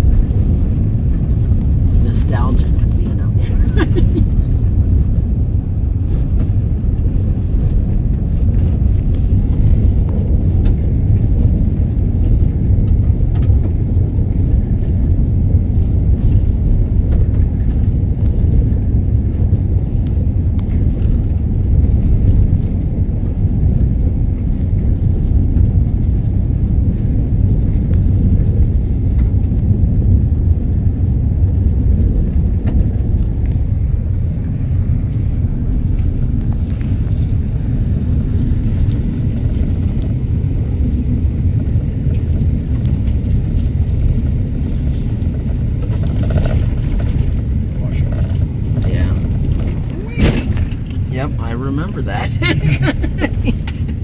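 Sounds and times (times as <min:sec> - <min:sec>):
car cabin rumble: 0:00.0 - 0:54.0.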